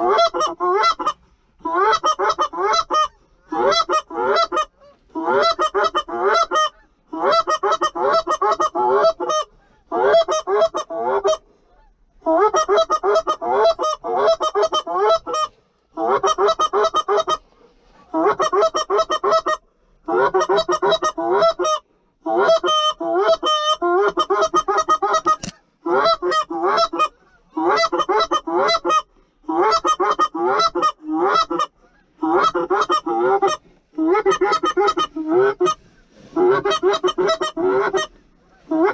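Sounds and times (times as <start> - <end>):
goose call honks and clucks: 0.0 - 38.9.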